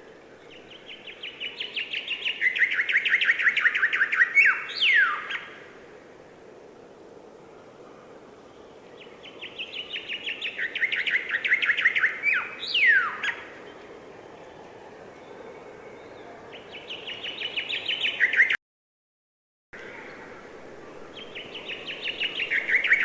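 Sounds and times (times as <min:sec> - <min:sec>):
songbird chirping: 0:00.0 - 0:18.6, 0:19.8 - 0:23.0.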